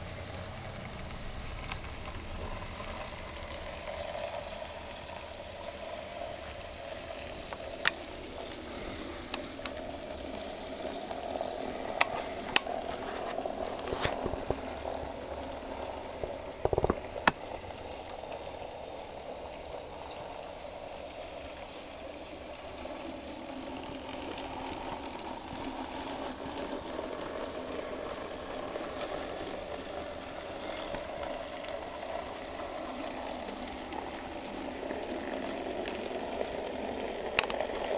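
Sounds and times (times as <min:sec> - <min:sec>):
model train wheels on rails: 0:00.0 - 0:37.9
small electric motors whining: 0:00.0 - 0:37.9.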